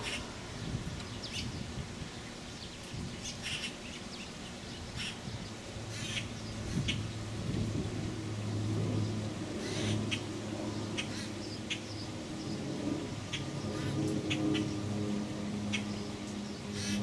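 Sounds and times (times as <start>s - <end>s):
birds chirping: 0.0s - 7.9s, 8.5s - 17.0s.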